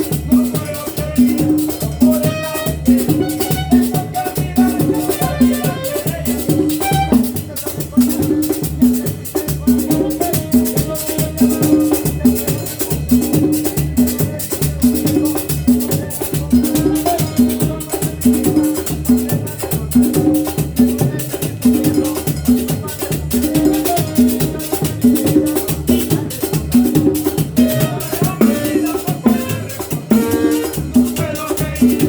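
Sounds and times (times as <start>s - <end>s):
bass line: 0.0s - 32.0s
hand percussion and shakers: 0.0s - 32.0s
salsa dance music: 0.0s - 32.0s.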